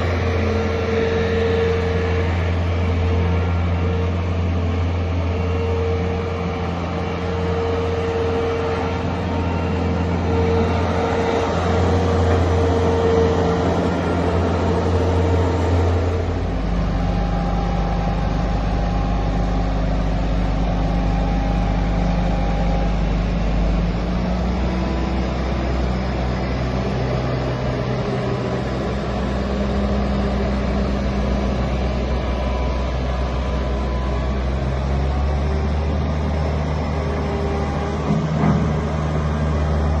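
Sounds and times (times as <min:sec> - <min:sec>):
loader diesel engine running: 0:00.0 - 0:40.0.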